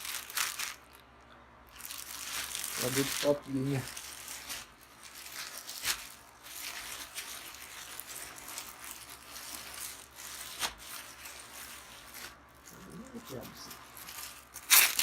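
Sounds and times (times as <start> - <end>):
packaging and cloth rustling: 0.0 - 0.9, 1.7 - 15.0.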